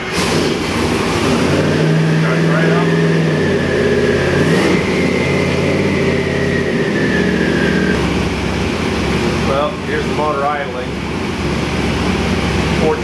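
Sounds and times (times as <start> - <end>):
engine idling fast: 0.0 - 13.0
high whine: 0.8 - 13.0.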